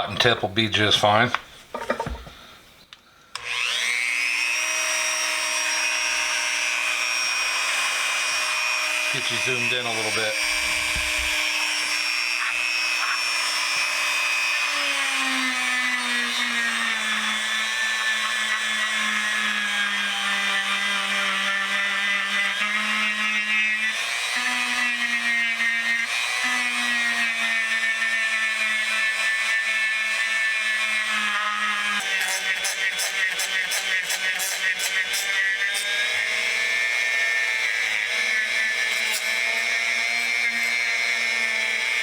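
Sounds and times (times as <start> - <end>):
rotary tool whining: 3.3 - 42.0.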